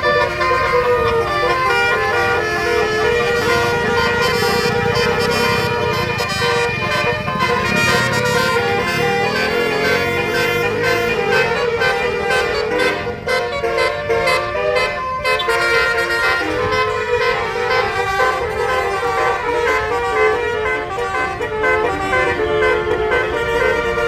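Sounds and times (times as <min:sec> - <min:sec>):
multi-note bus air horn tune: 0:00.0 - 0:24.0.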